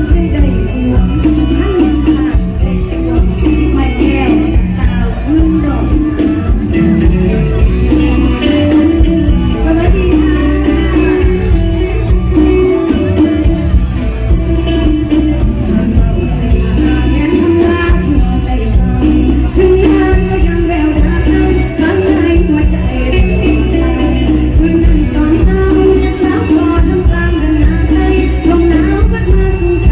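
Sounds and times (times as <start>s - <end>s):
live band playing: 0.0s - 29.9s
person singing: 0.0s - 29.9s.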